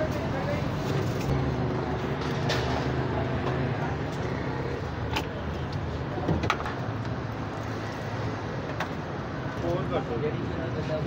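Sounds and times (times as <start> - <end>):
low traffic hum: 0.0 - 11.0.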